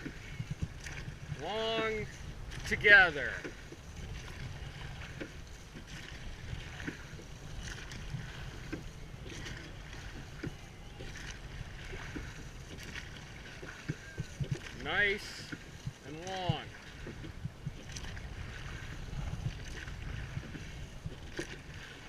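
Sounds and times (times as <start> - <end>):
oar blades swishing: 0.0 - 22.0
water rushing: 0.0 - 22.0
wind rumble on microphone: 0.0 - 22.0.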